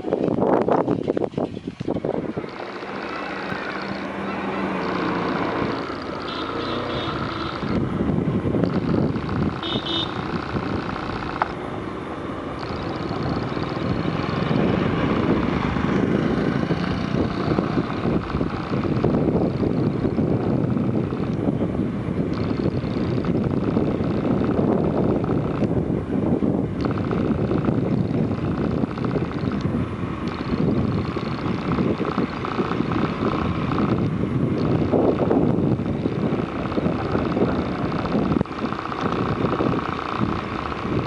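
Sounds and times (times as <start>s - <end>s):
small motorcycle engine cruising: 0.0s - 41.0s
wind noise on microphone: 0.0s - 41.0s.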